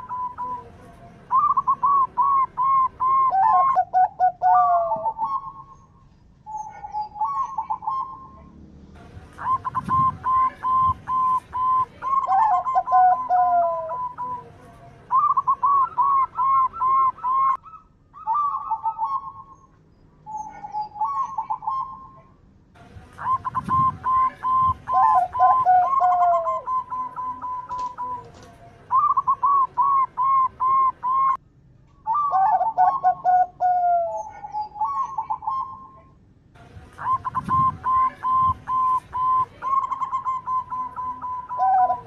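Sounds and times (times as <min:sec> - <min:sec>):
doves cooing: 0:00.0 - 0:08.6, 0:09.2 - 0:19.7, 0:20.3 - 0:22.2, 0:23.2 - 0:31.4, 0:32.1 - 0:36.1, 0:36.9 - 0:42.0.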